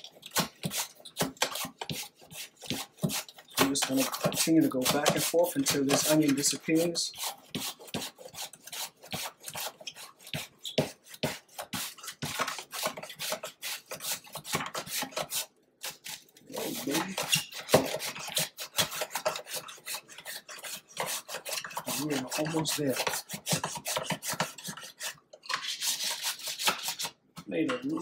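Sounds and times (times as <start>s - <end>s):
onion sliced on mandoline: 0.1s - 27.2s.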